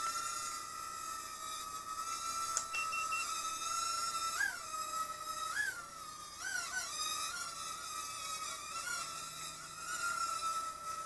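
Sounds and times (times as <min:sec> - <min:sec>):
small drone motors whining: 0:00.0 - 0:11.0.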